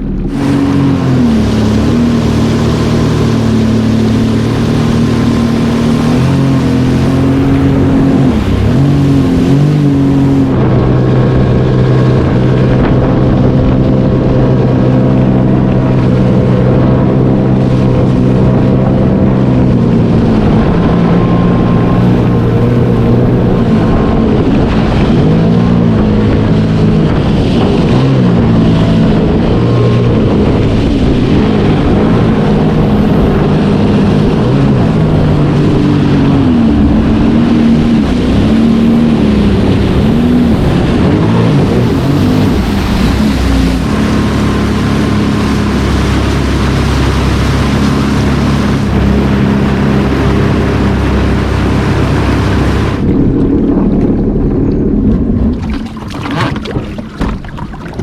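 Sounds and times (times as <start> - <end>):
personal watercraft engine running: 0.0 - 58.0.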